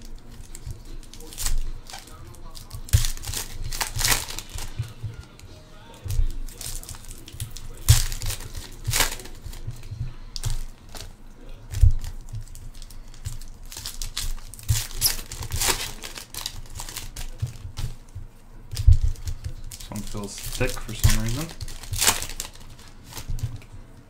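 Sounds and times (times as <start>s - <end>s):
card pack wrappers crinkling: 0.0s - 24.0s.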